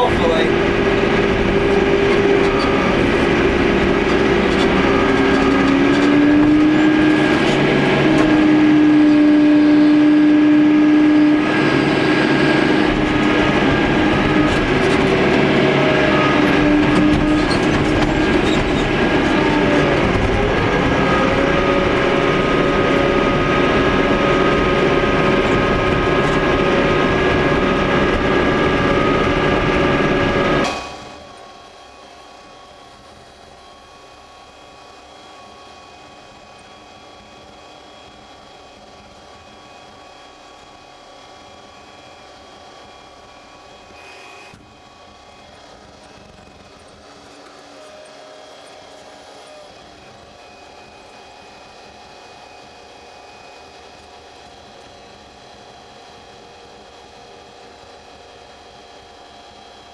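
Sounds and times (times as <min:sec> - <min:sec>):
tractor engine running: 0:00.0 - 0:44.0, 0:44.6 - 0:57.3
whining tones: 0:00.0 - 0:54.7.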